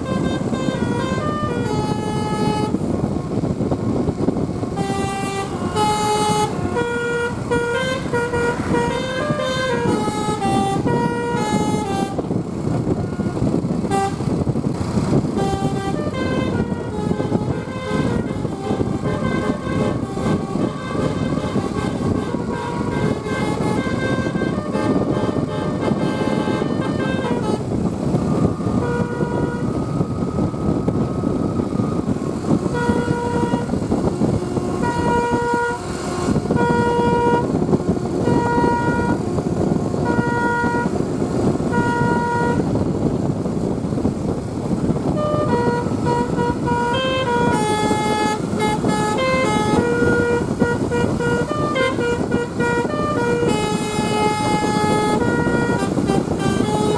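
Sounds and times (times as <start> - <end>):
moving bus noise: 0.0 - 56.9
multi-tone bus air horn tune: 0.0 - 56.9.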